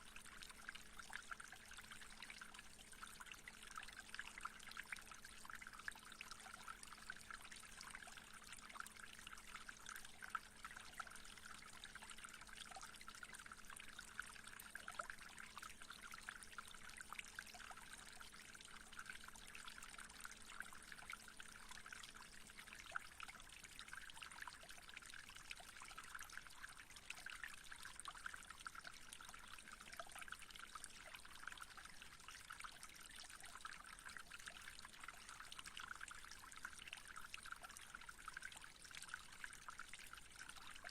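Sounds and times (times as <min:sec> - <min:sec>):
trickle of running water: 0:00.0 - 0:40.9.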